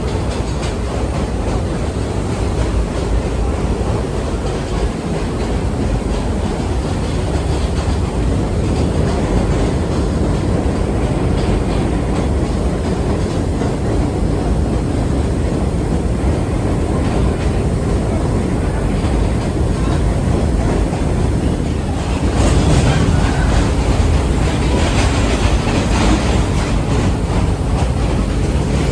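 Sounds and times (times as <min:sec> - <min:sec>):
rumble of subway wheels and motors: 0:00.0 - 0:28.9.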